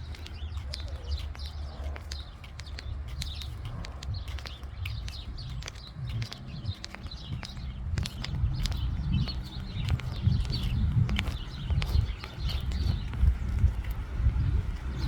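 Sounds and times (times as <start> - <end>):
sharp clicks: 0.0 - 14.5
small birds chirping: 0.0 - 15.0
steady low rumble: 0.0 - 15.0.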